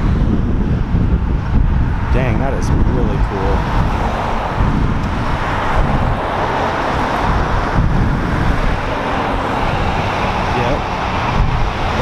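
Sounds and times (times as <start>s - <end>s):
road traffic passing: 0.0s - 12.0s
wind rumbling on microphone: 0.0s - 12.0s.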